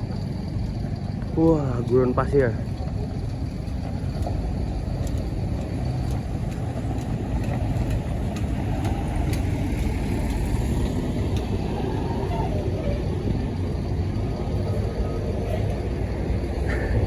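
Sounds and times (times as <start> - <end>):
large vehicle engines rumbling: 0.0 - 17.0.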